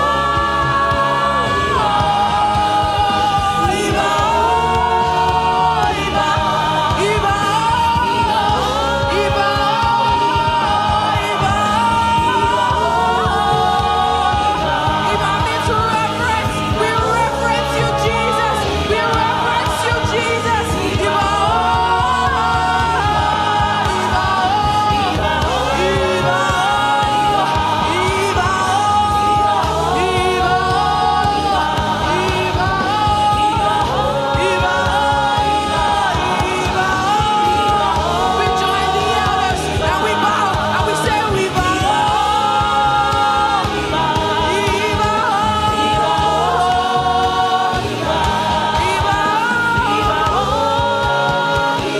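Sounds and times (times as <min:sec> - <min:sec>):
band accompaniment: 0:00.0 - 0:51.9
choir singing gospel: 0:00.0 - 0:51.9.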